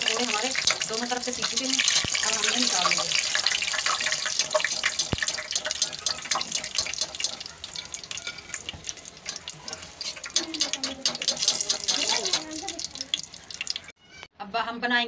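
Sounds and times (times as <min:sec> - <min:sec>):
hot oil sizzling and crackling: 0:00.0 - 0:13.9.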